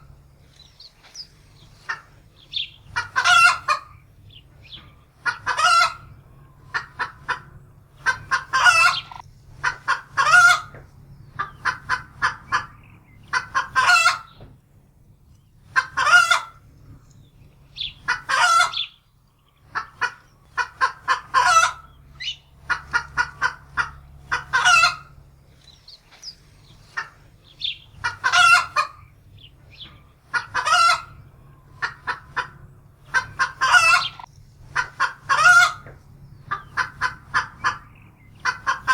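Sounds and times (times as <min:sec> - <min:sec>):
hen cackling in alarm: 0:01.7 - 0:14.4, 0:15.7 - 0:16.6, 0:17.8 - 0:19.0, 0:19.6 - 0:25.2, 0:26.2 - 0:38.9.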